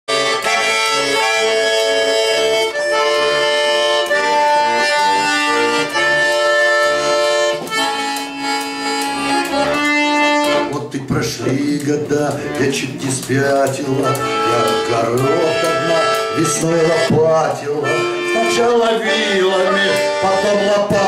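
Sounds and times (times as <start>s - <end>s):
accordion playing: 0.1s - 21.0s.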